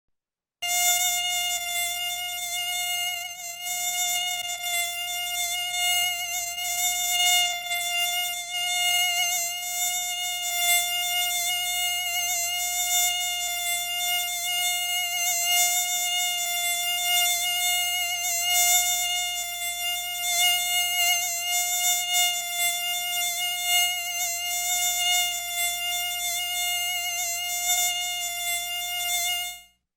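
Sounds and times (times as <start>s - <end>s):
mosquito wings buzzing: 0.6s - 29.8s.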